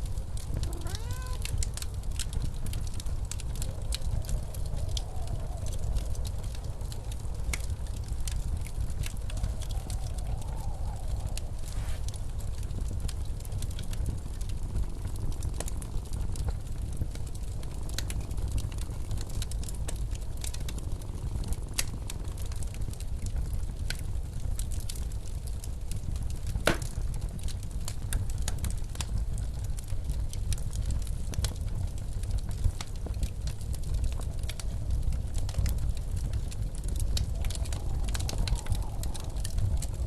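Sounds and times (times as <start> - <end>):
blizzard wind rumble: 0.0 - 40.0
fireplace crackling: 0.0 - 40.0.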